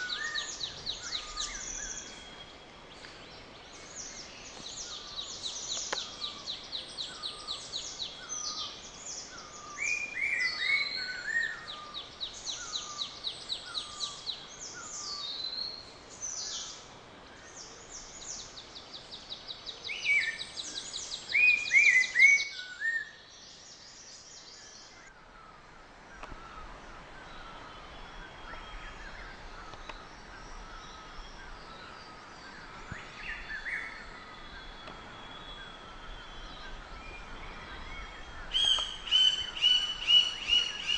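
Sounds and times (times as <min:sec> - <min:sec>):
forest birds calling: 0:00.0 - 0:40.9.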